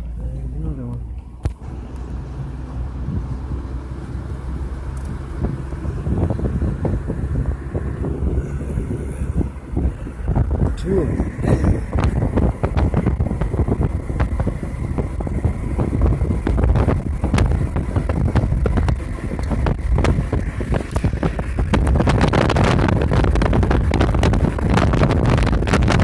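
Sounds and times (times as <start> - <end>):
car road rumble: 0.0 - 26.0
wind buffeting microphone: 1.4 - 26.0.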